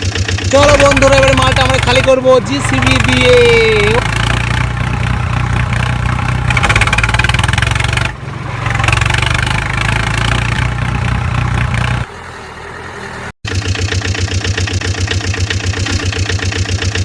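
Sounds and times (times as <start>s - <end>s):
pulsing mechanical drone: 0.0s - 17.0s.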